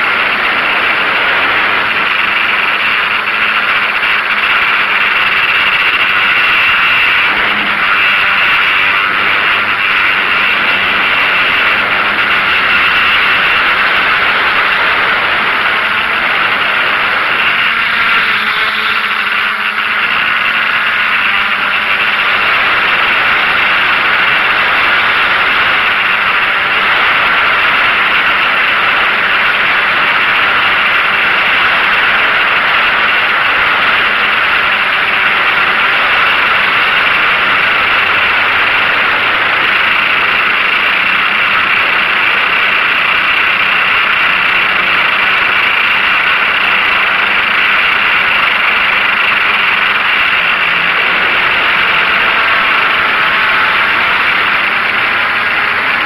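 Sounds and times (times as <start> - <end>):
drone motors buzzing: 0.0 - 56.0.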